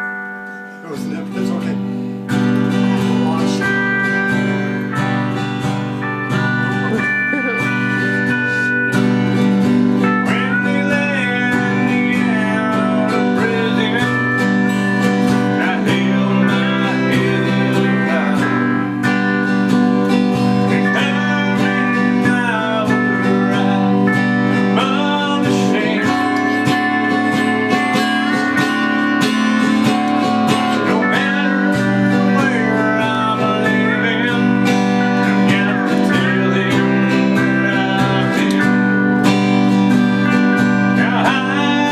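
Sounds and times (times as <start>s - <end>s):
guitar chords: 0.0s - 41.9s
slide guitar melody: 0.0s - 41.9s.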